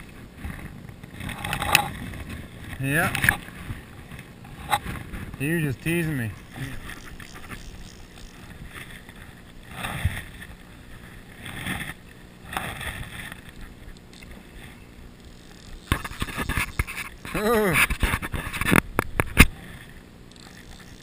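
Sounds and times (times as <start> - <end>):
shallow river water flowing: 0.0 - 21.0.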